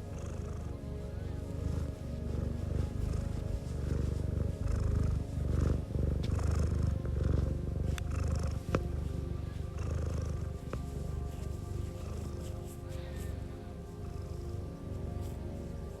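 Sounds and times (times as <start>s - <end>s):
cat purring: 0.0s - 16.0s
soft background music: 0.0s - 16.0s.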